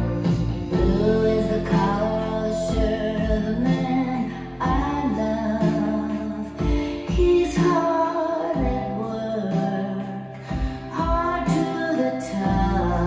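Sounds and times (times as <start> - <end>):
song with voice and guitar: 0.0 - 13.0.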